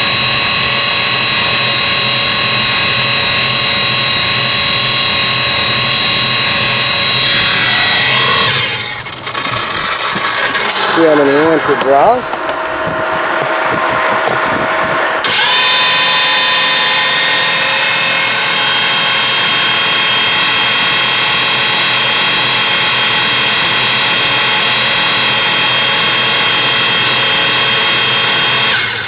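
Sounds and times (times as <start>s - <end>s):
electric motor whine: 0.0s - 29.0s.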